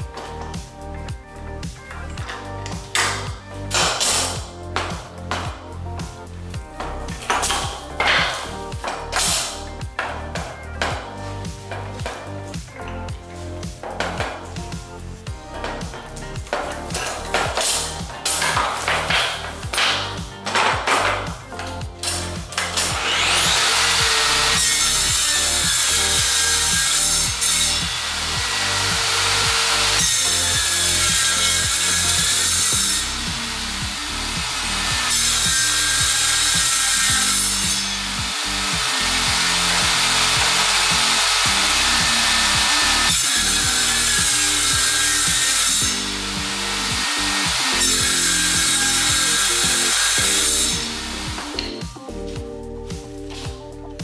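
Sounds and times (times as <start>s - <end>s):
background music with steady beat: 0.0s - 54.0s
table saw cutting wood: 1.5s - 52.3s.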